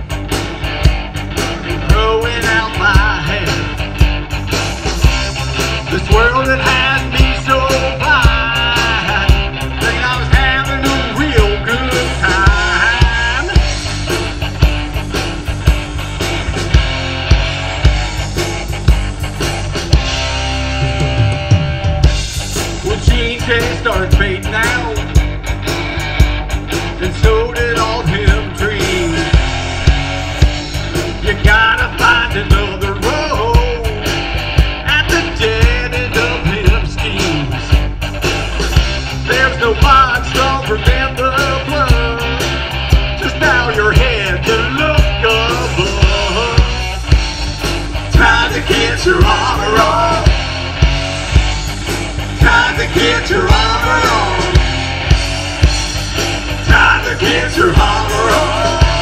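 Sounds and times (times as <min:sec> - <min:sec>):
bass guitar: 0:00.0 - 0:59.0
drum kit beat: 0:00.0 - 0:59.0
electric guitars: 0:00.0 - 0:59.0
live rock band playing: 0:00.0 - 0:59.0.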